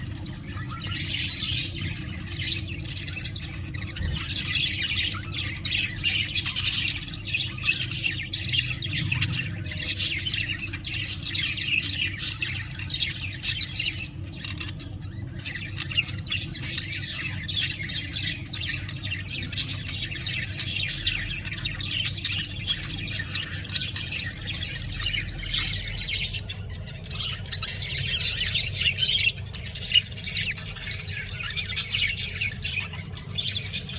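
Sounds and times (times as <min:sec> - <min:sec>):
budgerigars chattering and squawking: 0:00.0 - 0:33.9
steady low hum: 0:00.0 - 0:33.9.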